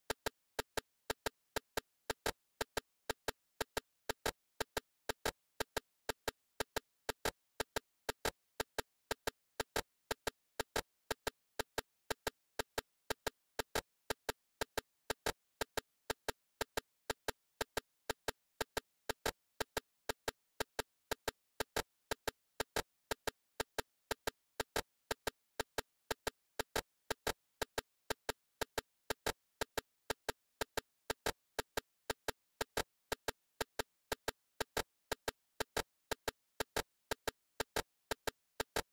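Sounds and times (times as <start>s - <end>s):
sharp clicking: 0.0s - 38.9s.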